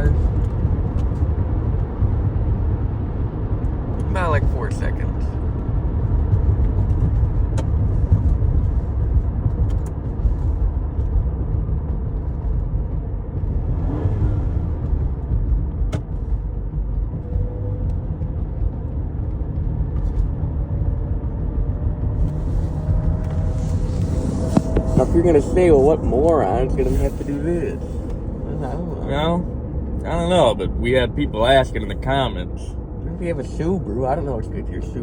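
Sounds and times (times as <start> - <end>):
road and tyre rumble in car: 0.0 - 35.0.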